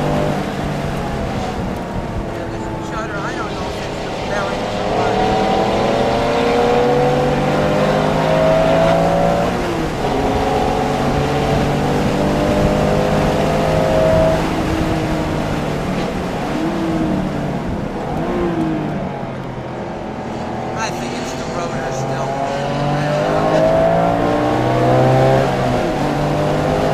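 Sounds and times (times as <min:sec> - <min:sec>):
race car engine revving: 0:00.0 - 0:26.9.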